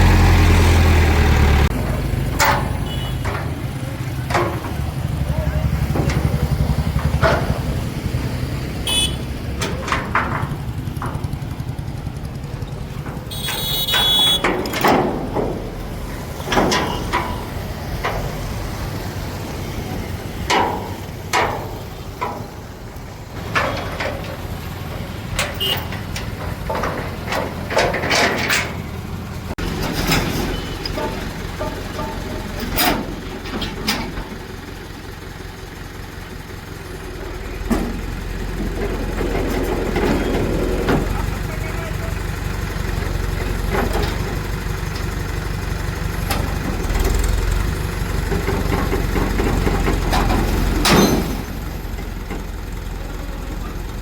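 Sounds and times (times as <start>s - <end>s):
heavy diesel engine running: 0.0s - 54.0s
metal clanks and knocks: 1.3s - 53.0s.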